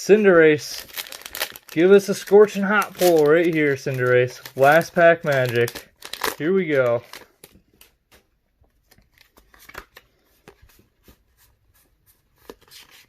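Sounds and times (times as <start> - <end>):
cards clicking and rustling: 0.9 - 11.5.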